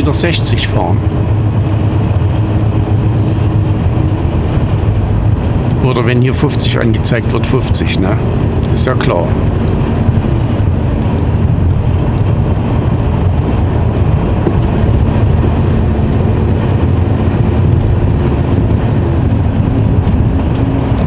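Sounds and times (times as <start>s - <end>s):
road and tyre noise: 0.0s - 21.0s
truck engine drone: 0.0s - 21.0s.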